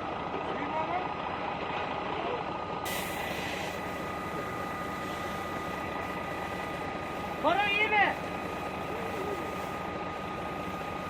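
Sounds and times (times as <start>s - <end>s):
heavy engine running with whine: 0.0s - 11.0s.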